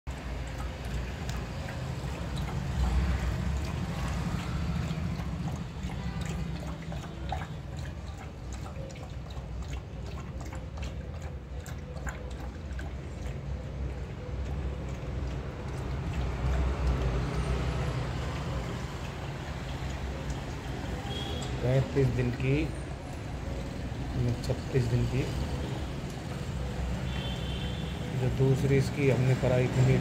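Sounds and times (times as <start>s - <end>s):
dog lapping from metal bowl: 0.1s - 30.0s.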